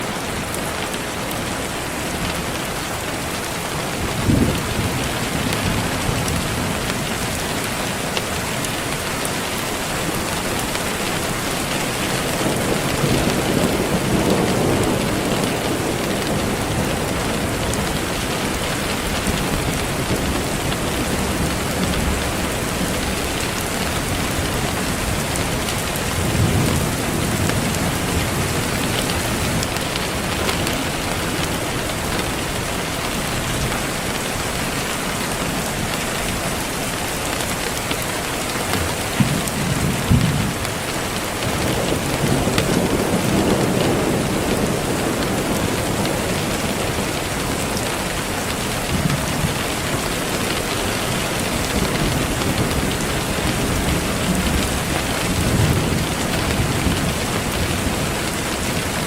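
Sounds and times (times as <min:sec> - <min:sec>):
steady rain falling: 0:00.0 - 0:59.0
thunder rumbling: 0:00.1 - 0:59.0.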